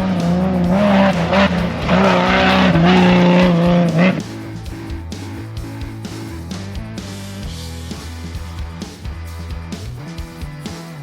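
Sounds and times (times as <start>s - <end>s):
vehicle engine revving: 0.0s - 8.8s
background music: 0.0s - 11.0s.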